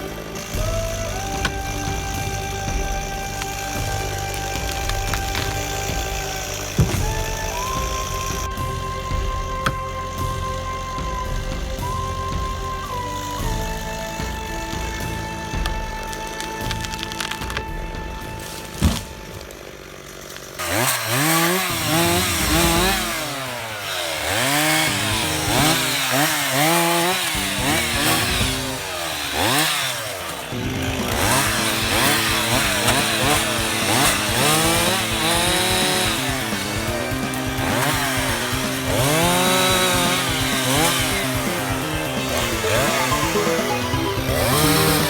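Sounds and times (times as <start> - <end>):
chainsaw engine revving: 0.0 - 45.0.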